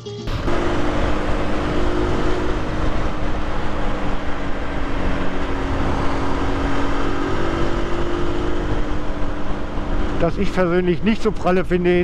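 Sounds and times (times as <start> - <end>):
motorcycle engine running: 0.3 - 11.5
wind and road noise: 0.3 - 12.0.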